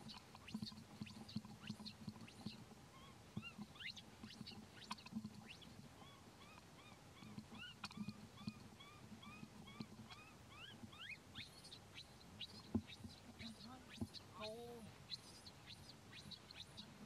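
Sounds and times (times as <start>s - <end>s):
baby monkey squeaks and chirps: 0.1s - 17.0s.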